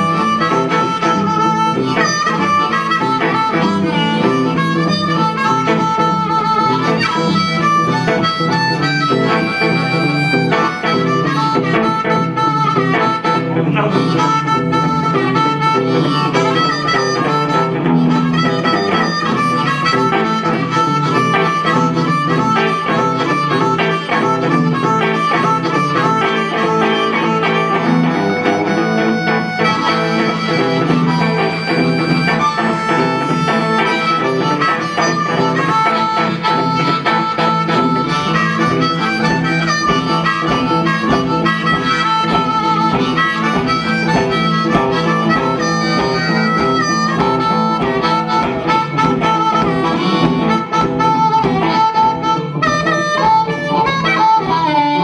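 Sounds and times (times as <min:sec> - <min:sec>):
blues harmonica: 0:00.0 - 0:55.0
electric guitar accompaniment: 0:00.0 - 0:55.0.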